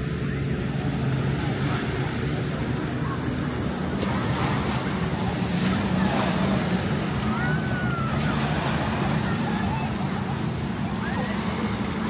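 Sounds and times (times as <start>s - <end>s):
engine droning: 0.0s - 12.0s
surf washing on beach: 0.0s - 12.0s.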